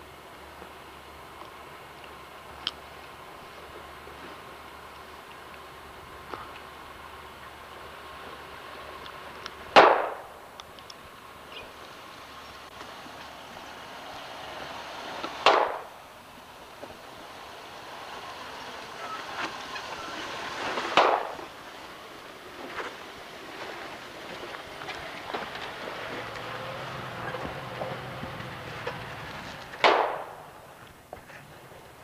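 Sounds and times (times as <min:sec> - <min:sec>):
engine running low: 0:00.0 - 0:32.0.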